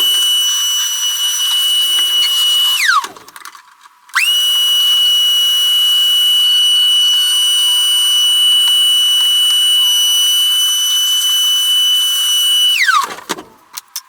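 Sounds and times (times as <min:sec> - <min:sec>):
shop vac motor whine: 0:00.0 - 0:03.4, 0:04.2 - 0:13.4.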